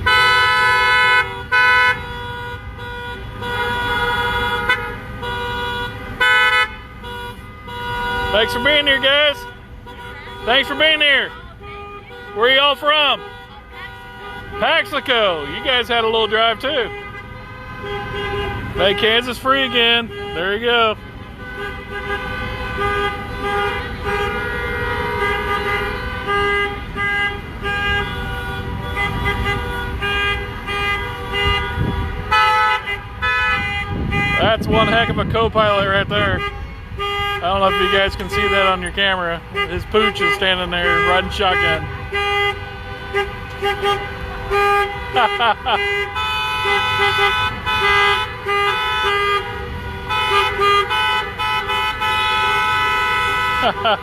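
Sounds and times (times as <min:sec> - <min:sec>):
car horns honking: 0:00.0 - 0:54.0
traffic rumble: 0:00.0 - 0:54.0.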